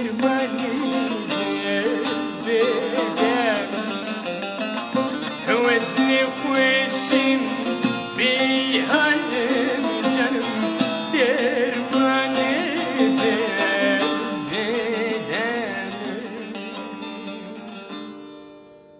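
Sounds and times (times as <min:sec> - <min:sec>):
man singing folk song: 0:00.0 - 0:18.3
plucked saz: 0:00.0 - 0:18.9.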